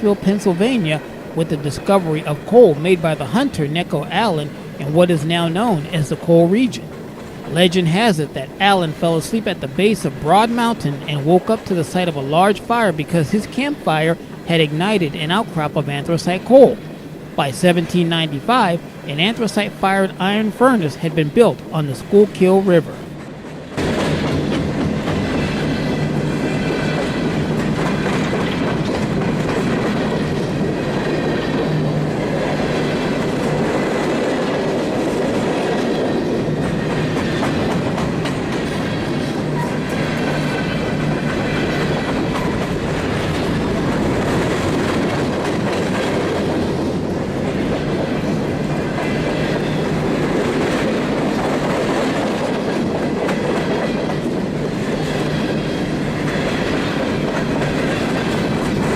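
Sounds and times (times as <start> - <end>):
train wheels on rails: 0.0 - 58.9.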